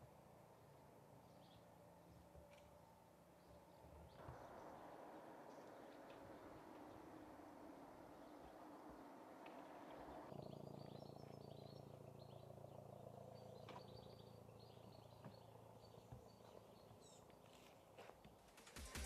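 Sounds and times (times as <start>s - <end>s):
low steady hum: 0.0s - 17.5s
faint birds chirping: 0.0s - 19.0s.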